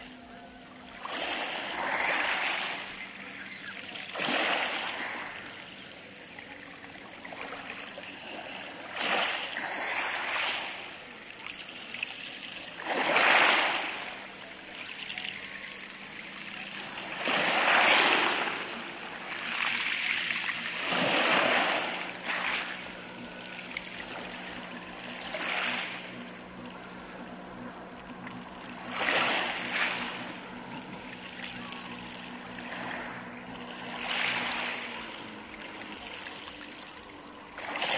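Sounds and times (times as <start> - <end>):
waves washing over pebbles: 1.0 - 5.5, 7.3 - 11.0, 11.8 - 26.6, 28.2 - 36.8, 37.6 - 37.9.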